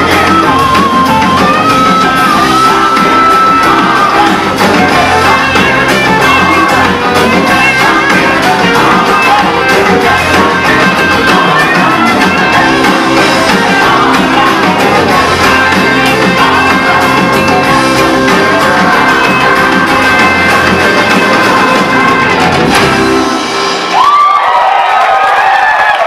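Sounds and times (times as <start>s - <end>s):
chorus of voices singing: 0.0s - 21.5s
saxophones: 0.0s - 23.9s
electric guitar: 0.0s - 24.0s
drums: 0.0s - 26.0s.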